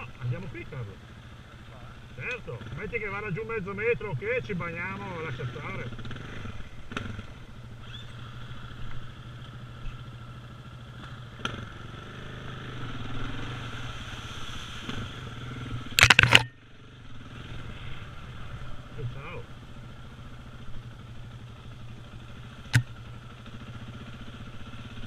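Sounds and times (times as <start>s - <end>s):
motorcycle engine low revs: 0.0s - 25.0s.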